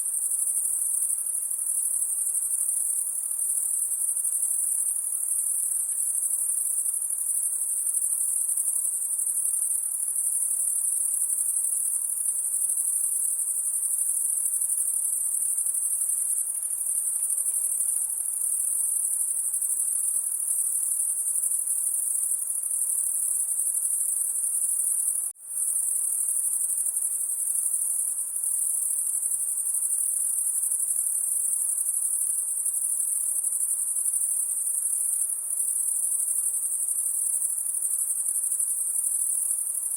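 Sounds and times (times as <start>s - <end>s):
night insects chorus: 0.0s - 39.9s.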